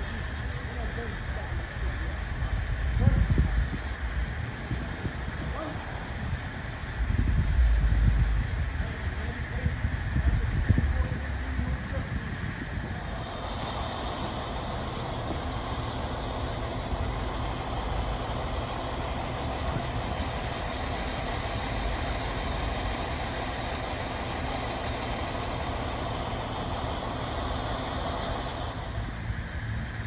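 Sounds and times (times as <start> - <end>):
fire engine idling: 0.0 - 30.0.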